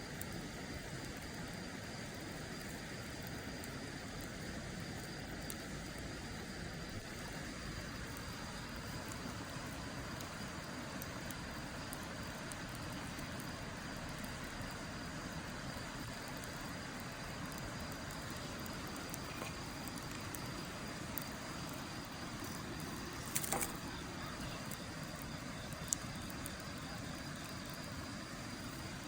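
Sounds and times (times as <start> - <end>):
campfire crackles: 0.0 - 29.0.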